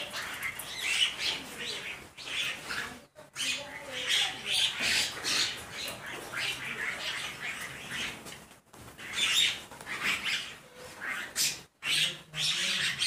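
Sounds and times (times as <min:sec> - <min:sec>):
mynas chattering calls: 0:00.0 - 0:08.2, 0:09.0 - 0:13.0.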